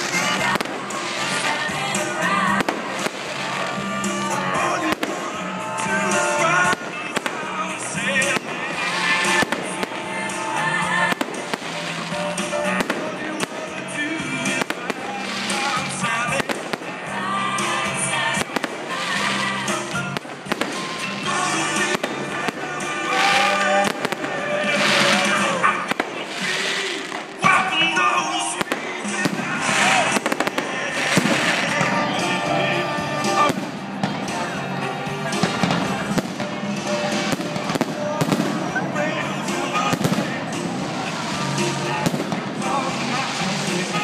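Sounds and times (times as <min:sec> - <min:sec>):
fireworks bursting: 0:00.0 - 0:44.0
music playing: 0:00.0 - 0:44.0.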